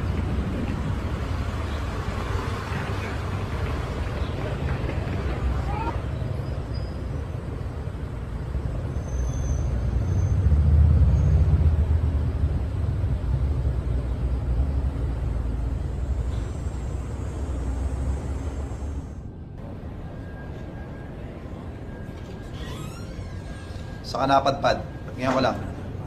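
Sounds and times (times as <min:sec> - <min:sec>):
vehicle engine rumble: 0:00.0 - 0:24.1
road noise: 0:00.0 - 0:26.0.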